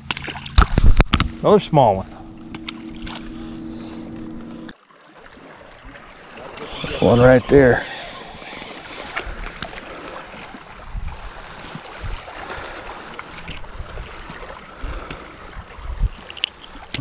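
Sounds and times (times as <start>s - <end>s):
water lapping around boat: 0.0s - 17.0s
wind on microphone: 0.6s - 4.7s, 6.8s - 12.7s, 13.3s - 17.0s.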